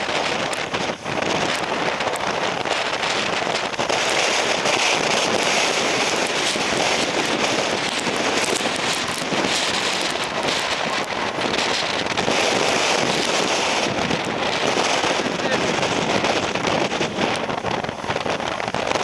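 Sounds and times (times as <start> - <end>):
raindrops striking microphone: 0.0 - 19.0
strong wind: 0.0 - 19.0.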